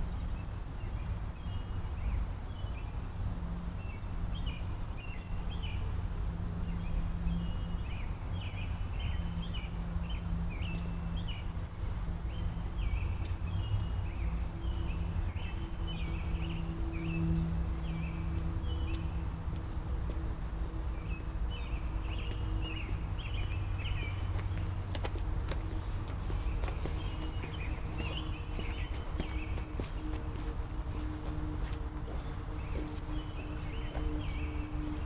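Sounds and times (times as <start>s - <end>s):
faint droning hum: 0.0s - 35.0s
birds chirping: 3.8s - 35.0s
steady low rumble: 6.3s - 35.0s.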